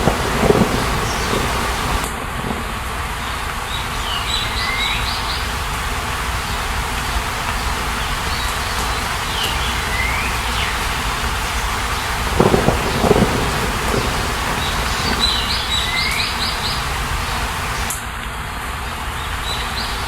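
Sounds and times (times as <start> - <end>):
steady rushing hiss: 0.0 - 18.2.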